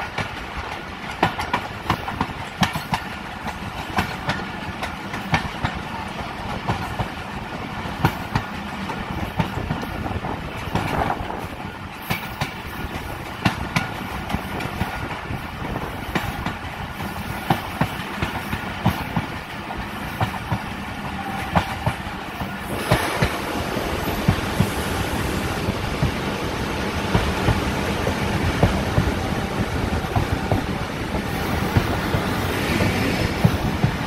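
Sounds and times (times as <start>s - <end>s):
train coach rumbling: 0.0s - 34.0s
wheels clacking over rail joints: 0.0s - 34.0s.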